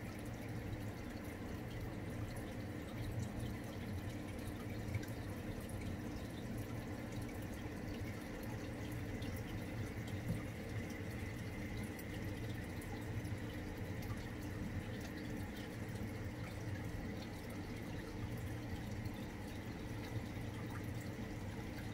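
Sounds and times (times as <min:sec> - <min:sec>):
aquarium water trickling: 0:00.0 - 0:21.9
tank filter hum: 0:00.0 - 0:21.9.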